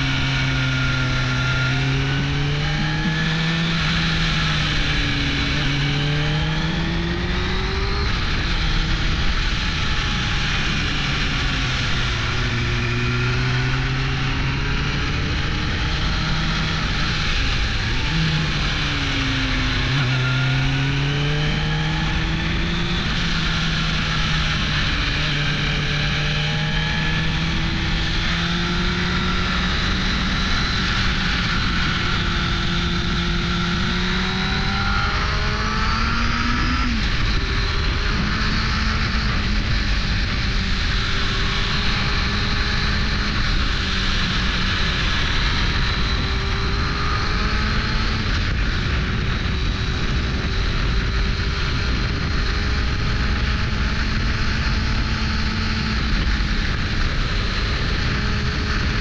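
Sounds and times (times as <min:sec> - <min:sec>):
motorcycle engine revving: 0:00.0 - 0:59.0
wind on microphone: 0:00.0 - 0:59.0.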